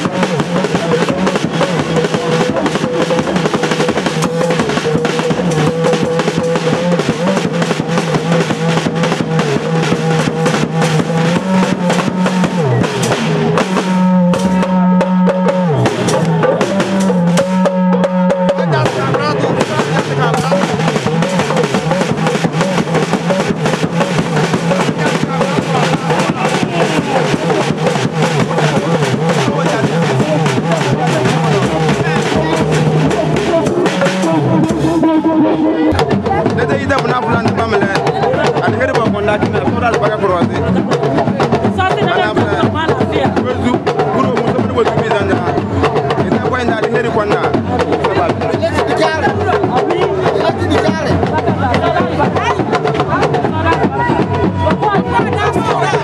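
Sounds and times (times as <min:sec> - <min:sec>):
crowd singing and calling: 0:00.0 - 0:56.0
rapid drumming: 0:00.0 - 0:56.0.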